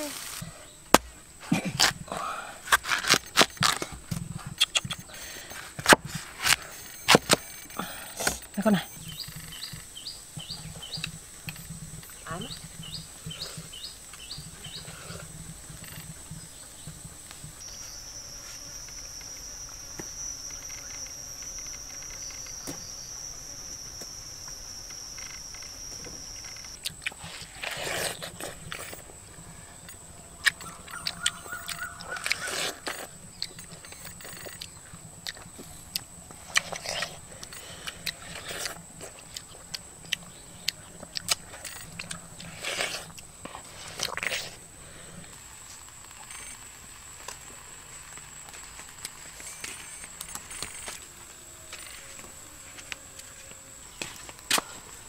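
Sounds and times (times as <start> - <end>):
people eating: 0.0 - 19.5, 20.6 - 55.0
insects droning: 0.0 - 55.0
lower insect drone: 0.0 - 55.0.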